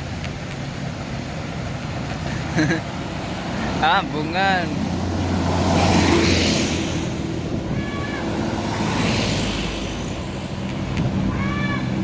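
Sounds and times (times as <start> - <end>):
engine drone: 0.0 - 12.0
vehicles rushing past: 0.0 - 12.0.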